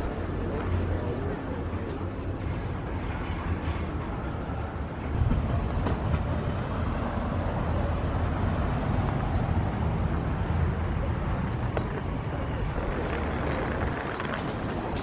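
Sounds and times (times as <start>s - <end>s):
road traffic: 0.0s - 15.0s
tram rolling on rails: 0.0s - 15.0s.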